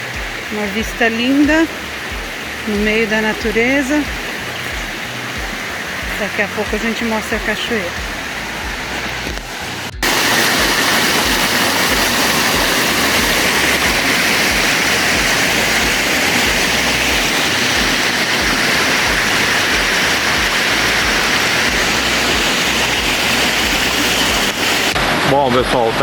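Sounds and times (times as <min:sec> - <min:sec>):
water rushing in stream: 0:00.0 - 0:26.0.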